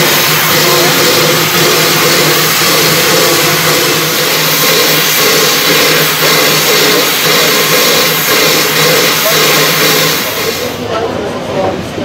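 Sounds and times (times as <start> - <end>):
steam locomotive venting steam: 0.0 - 11.6.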